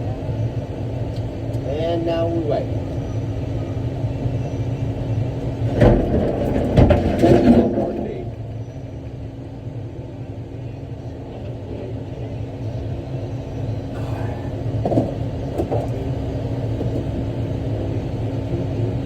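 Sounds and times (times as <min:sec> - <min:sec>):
diesel engine drone: 0:00.0 - 0:19.0.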